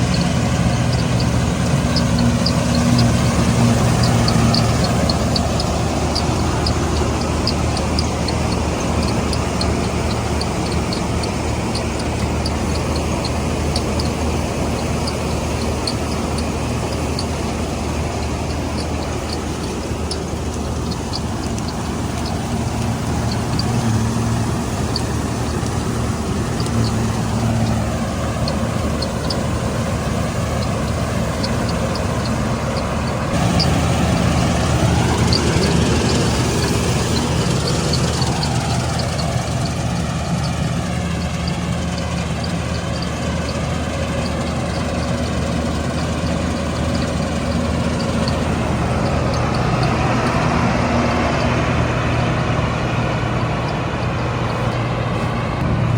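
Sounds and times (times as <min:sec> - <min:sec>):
combine harvester engine drone: 0:00.0 - 0:55.9.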